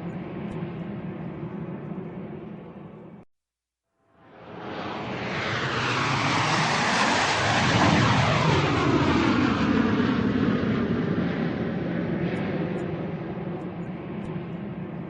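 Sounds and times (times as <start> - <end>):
airplane engine roar: 0.0 - 3.2, 4.2 - 15.0.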